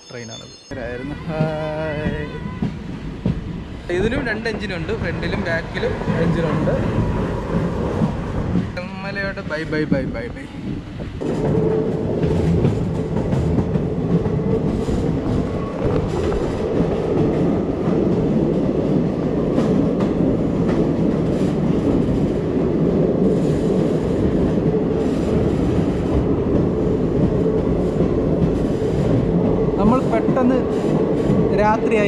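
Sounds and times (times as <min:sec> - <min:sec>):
train wheels rumbling on rails: 0:00.7 - 0:32.0.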